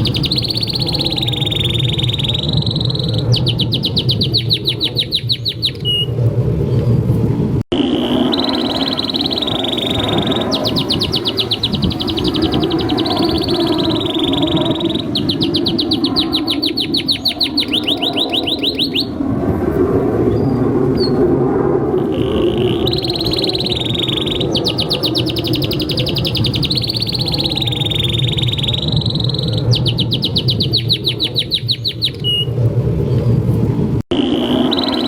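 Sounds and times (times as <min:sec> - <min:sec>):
canary singing trills: 0:00.0 - 0:06.1, 0:07.8 - 0:19.2, 0:22.0 - 0:32.5, 0:34.2 - 0:35.0
low rumble: 0:00.0 - 0:35.0.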